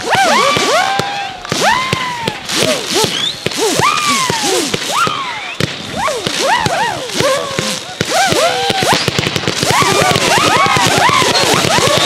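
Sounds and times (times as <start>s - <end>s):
firework cracks and bangs: 0.0s - 12.0s
whistling fireworks: 0.0s - 12.0s.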